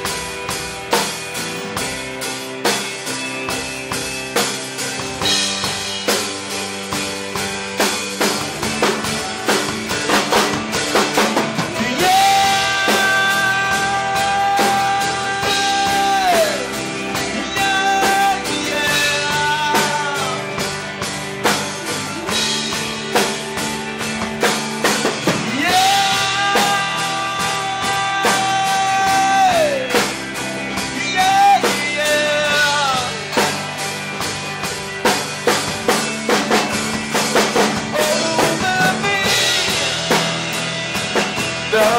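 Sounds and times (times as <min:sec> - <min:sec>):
rock band playing: 0:00.0 - 0:41.9
sliding lead melody: 0:00.0 - 0:41.9.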